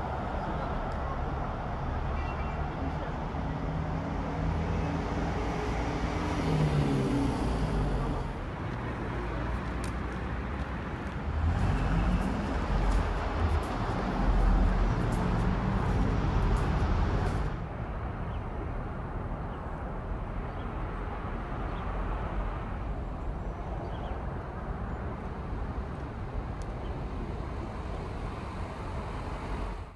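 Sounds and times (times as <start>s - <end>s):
city road traffic: 0.0s - 29.9s.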